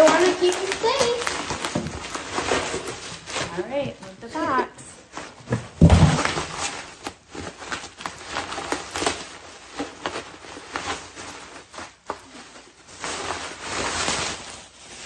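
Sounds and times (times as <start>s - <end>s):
bubble wrap crackles: 0.0s - 15.0s
bubble wrap rustling and crinkling: 0.0s - 15.0s.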